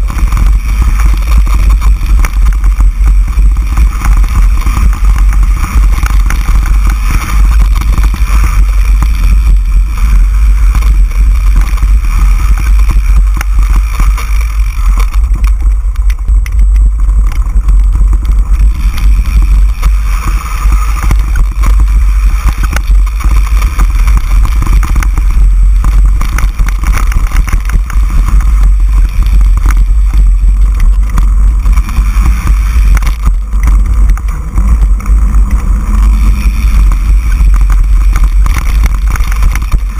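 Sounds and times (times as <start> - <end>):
bike rattling over trail: 0.0 - 39.9
wind buffeting microphone: 0.0 - 39.9.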